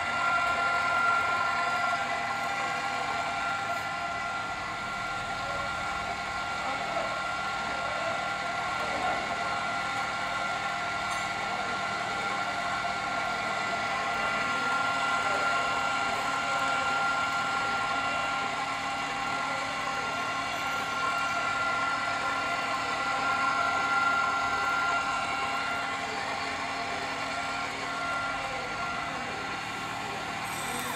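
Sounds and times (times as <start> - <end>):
threading machine motor whine: 0.0 - 30.9.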